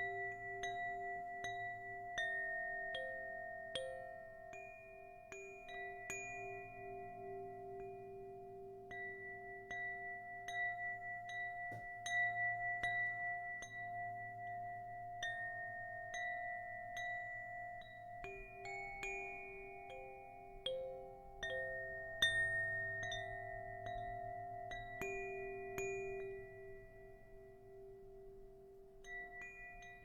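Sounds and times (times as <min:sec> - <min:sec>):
soft bell-like metallic tones: 0:00.0 - 0:30.0.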